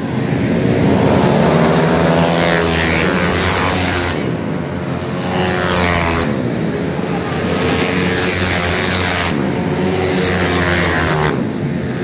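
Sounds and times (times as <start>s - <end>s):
scooter engines revving past: 0.0s - 12.0s.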